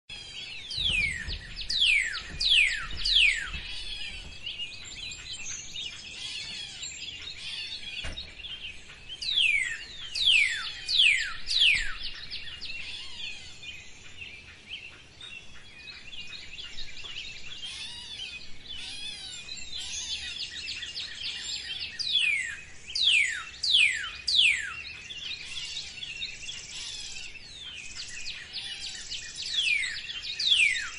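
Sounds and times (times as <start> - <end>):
birds chirping in chorus: 0.1 - 30.9.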